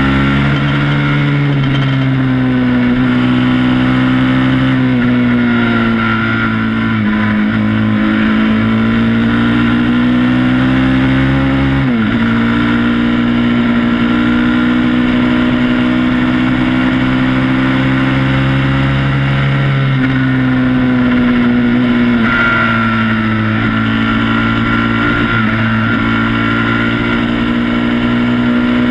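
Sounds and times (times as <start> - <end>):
quad bike engine running: 0.0 - 28.9.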